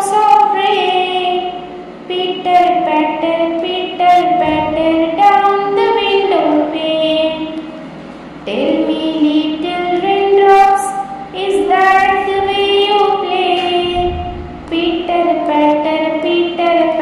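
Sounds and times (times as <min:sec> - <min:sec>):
young person singing: 0:00.0 - 0:07.6, 0:08.5 - 0:17.0.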